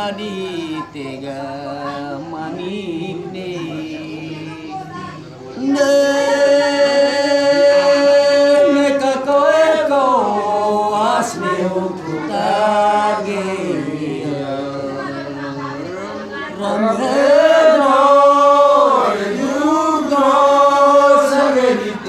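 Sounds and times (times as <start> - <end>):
man singing unaccompanied: 0.0 - 22.0.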